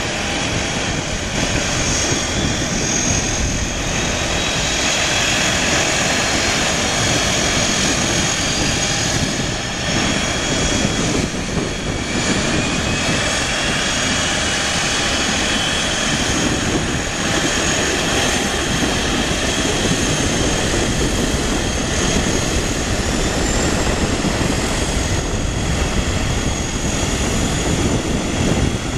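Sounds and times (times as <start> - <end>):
jet engines rushing: 0.0 - 28.9.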